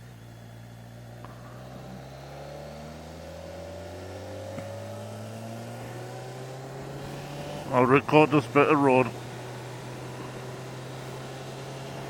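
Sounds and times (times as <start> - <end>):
motorcycle engine revs climbing: 0.0 - 12.0.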